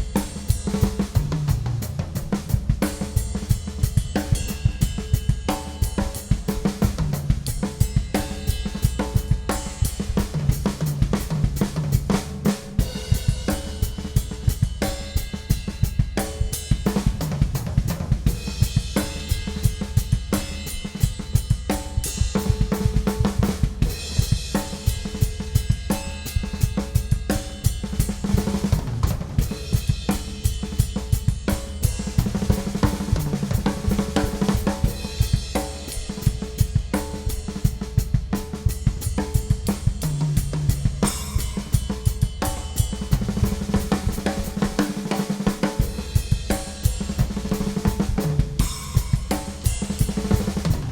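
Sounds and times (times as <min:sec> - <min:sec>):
drum kit rock groove: 0:00.0 - 0:50.9.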